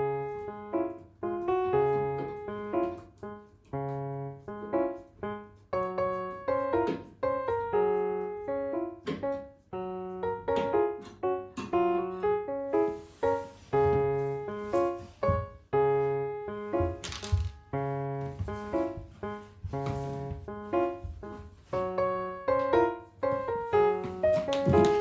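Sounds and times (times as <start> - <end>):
solo piano music: 0.0 - 25.0.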